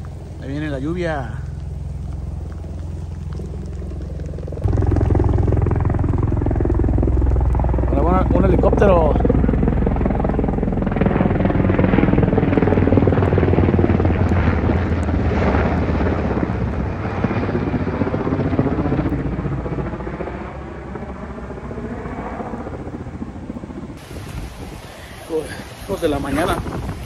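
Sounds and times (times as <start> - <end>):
helicopter rotor noise: 0.0 - 24.6, 25.3 - 27.0.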